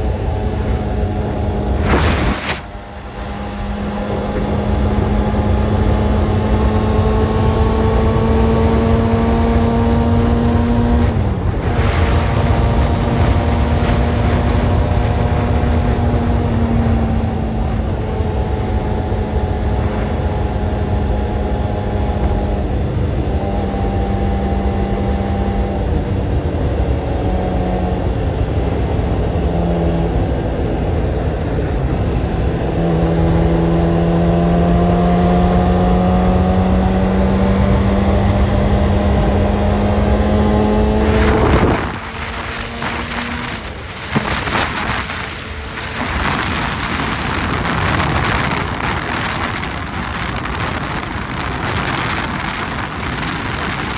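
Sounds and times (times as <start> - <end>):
motorcycle engine running: 0.0 - 53.9
wind rumble: 0.0 - 53.9.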